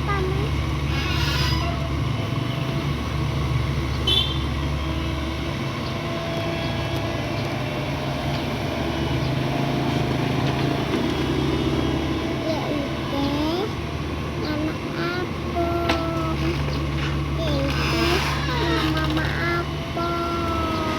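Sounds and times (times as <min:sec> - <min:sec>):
excavator diesel engine running: 0:00.0 - 0:01.0, 0:01.6 - 0:20.9.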